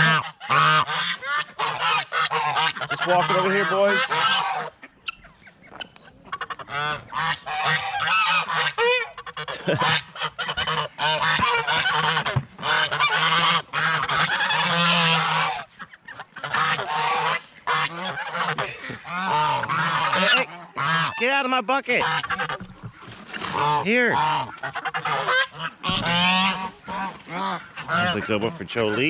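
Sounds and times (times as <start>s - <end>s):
geese honking: 0.0s - 29.0s.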